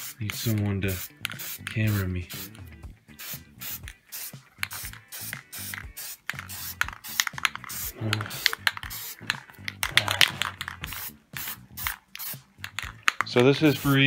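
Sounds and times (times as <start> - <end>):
spray paint can hissing: 0.0 - 2.6, 3.2 - 14.0.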